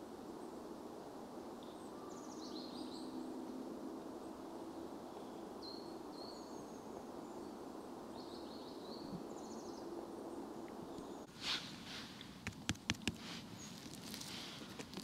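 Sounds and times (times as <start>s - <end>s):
low outdoor hiss: 0.0s - 15.0s.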